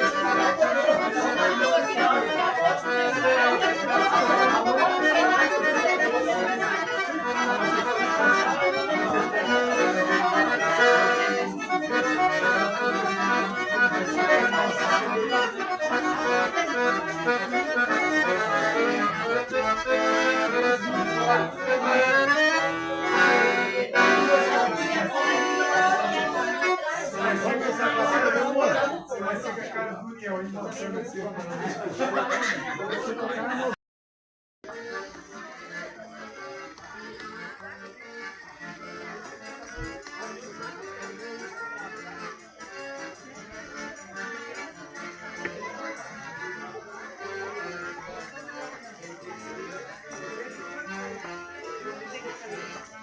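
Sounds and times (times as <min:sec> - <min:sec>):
accordion dance music: 0:00.0 - 0:33.8, 0:34.6 - 0:53.0.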